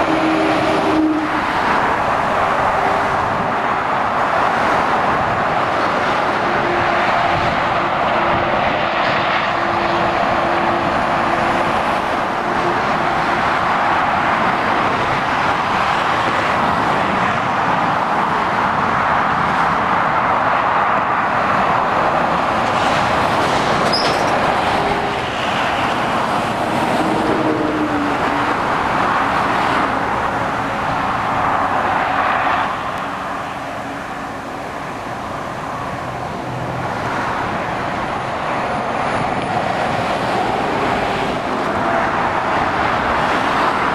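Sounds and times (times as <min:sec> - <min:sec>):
diesel engines humming: 0:00.0 - 0:43.9
lorries and cars driving past: 0:00.0 - 0:43.9.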